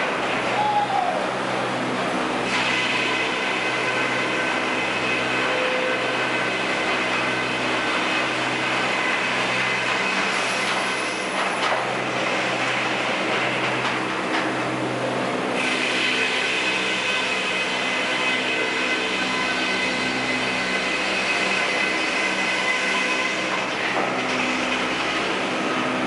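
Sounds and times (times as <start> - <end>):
high-pitched machine whine: 0.0 - 26.0.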